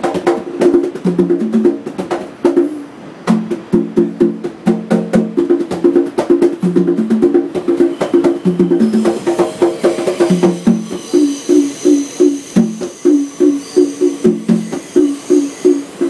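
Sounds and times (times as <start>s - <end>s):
conga drums: 0.0s - 16.0s.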